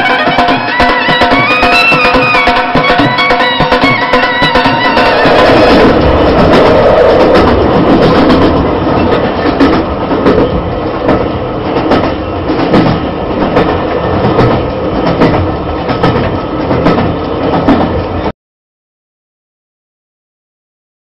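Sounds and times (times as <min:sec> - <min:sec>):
train wheels clicking over rail joints: 0:00.0 - 0:18.3.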